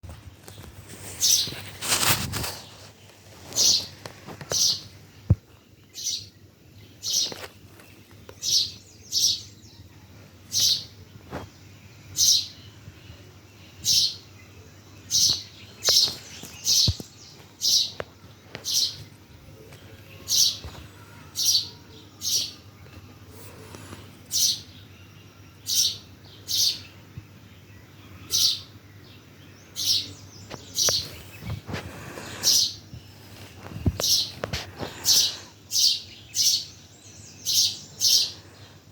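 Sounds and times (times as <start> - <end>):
bird chirping: 0.3 - 38.9.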